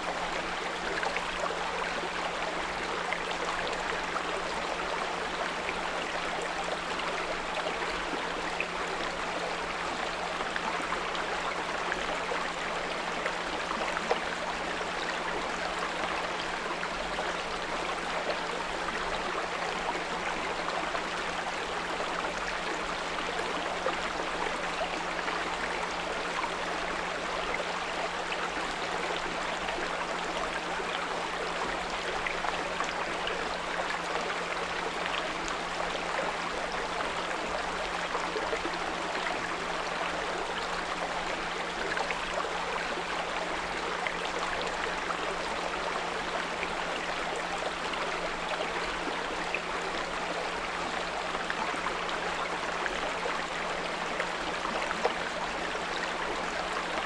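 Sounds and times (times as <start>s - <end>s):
brook gurgling: 0.0s - 57.0s.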